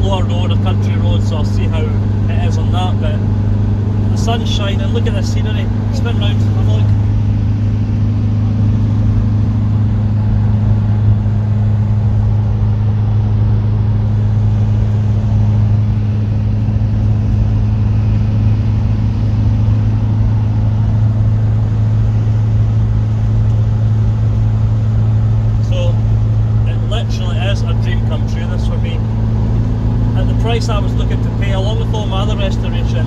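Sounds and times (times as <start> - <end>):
road and wind noise: 0.0 - 33.0
van engine droning: 0.0 - 33.0.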